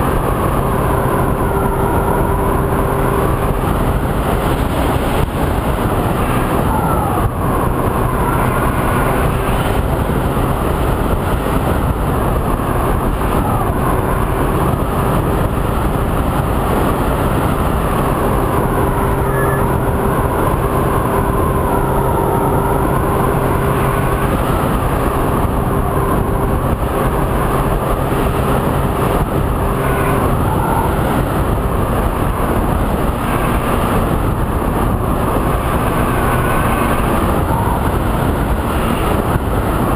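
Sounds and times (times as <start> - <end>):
electric motor and propeller whine: 0.0 - 39.9
wind rush: 0.0 - 39.9.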